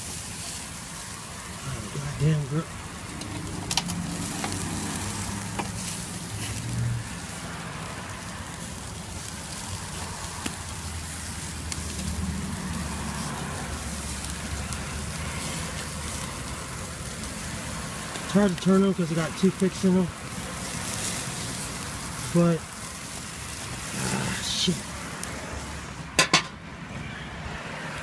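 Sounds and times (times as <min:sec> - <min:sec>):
meat sizzling on grill: 0:00.0 - 0:28.0.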